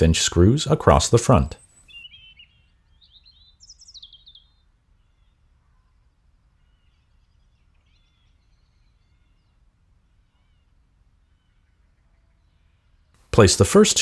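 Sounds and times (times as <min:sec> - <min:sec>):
low steady background noise: 0:00.0 - 0:14.0
small birds chirping: 0:00.0 - 0:14.0.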